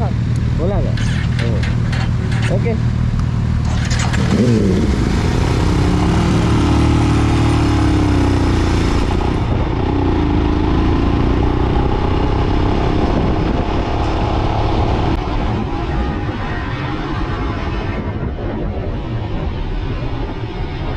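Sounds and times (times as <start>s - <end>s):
motorcycle engines running: 0.0s - 20.4s.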